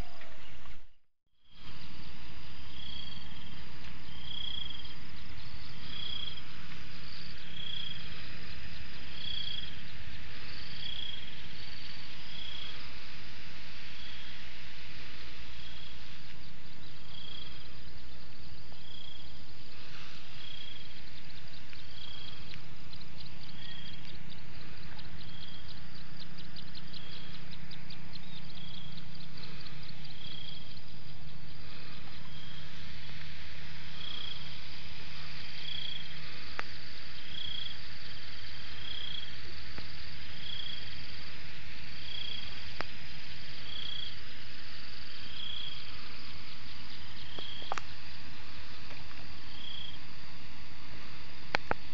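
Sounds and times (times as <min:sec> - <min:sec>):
faint low hum: 0:00.0 - 0:51.9
insects chirring: 0:00.0 - 0:51.9.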